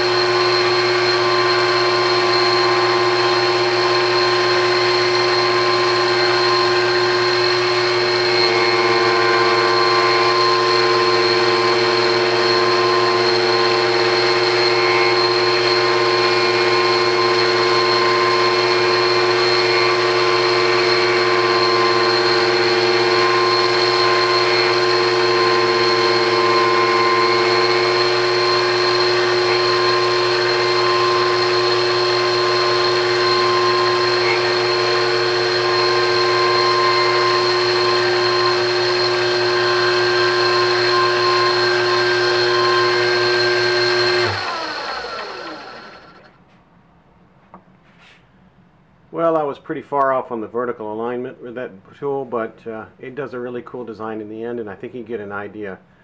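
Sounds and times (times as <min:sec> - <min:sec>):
lathe cutter whining: 0:00.0 - 0:46.4.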